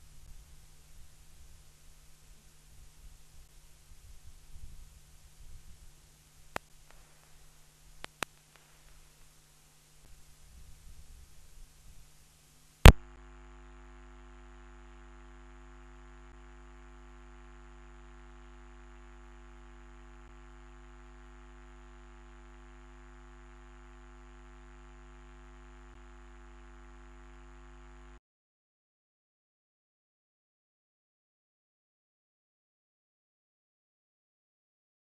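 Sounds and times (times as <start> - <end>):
steady electrical hum: 0.0 - 28.2.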